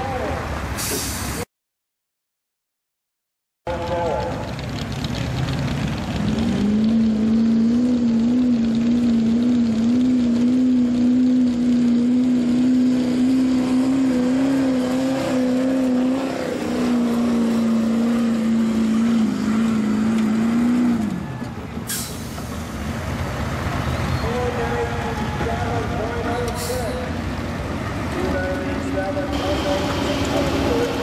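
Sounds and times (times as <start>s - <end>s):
diesel truck engine at high revs: 3.7s - 31.0s.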